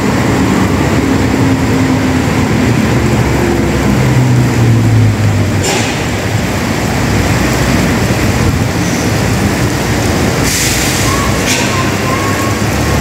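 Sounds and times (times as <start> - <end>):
bus diesel engine pulling away: 0.0 - 13.0
heavy rain hissing: 0.0 - 13.0
tyres on wet road: 0.0 - 13.0.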